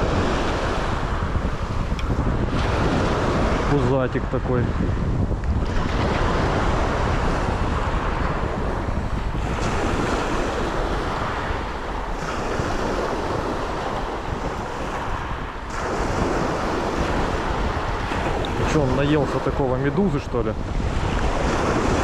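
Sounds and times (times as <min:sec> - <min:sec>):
sea surf washing onto shore: 0:00.0 - 0:22.0
wind buffeting microphone: 0:00.0 - 0:22.0.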